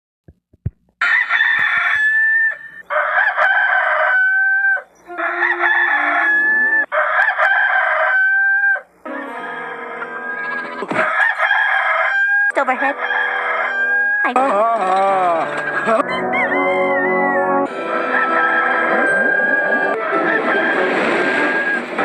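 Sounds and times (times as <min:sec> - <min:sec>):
rooster crowing: 0:01.0 - 0:14.4, 0:15.6 - 0:22.0.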